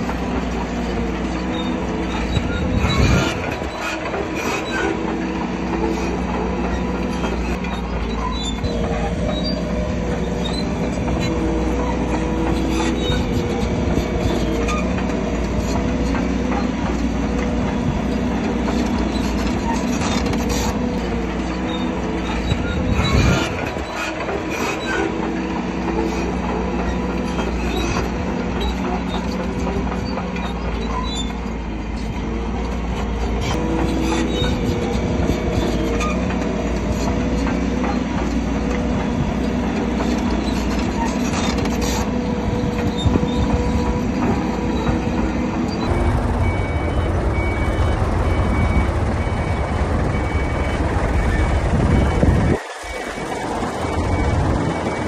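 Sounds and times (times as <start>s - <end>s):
bulldozer diesel engine running: 0.0s - 55.0s
steel tracks clanking and squealing: 0.0s - 55.0s.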